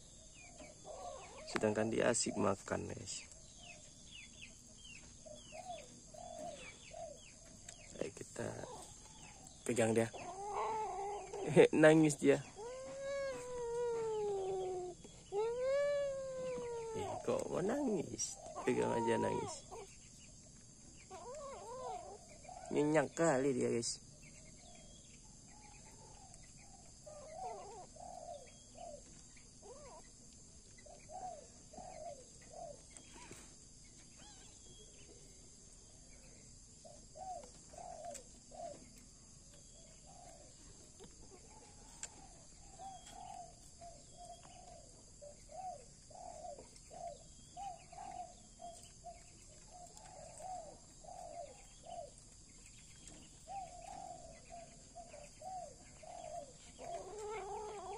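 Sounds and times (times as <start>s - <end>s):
dove cooing: 0.0s - 3.8s, 5.1s - 20.0s, 20.6s - 23.9s, 25.5s - 30.1s, 30.8s - 33.5s, 36.8s - 52.3s, 52.9s - 57.9s.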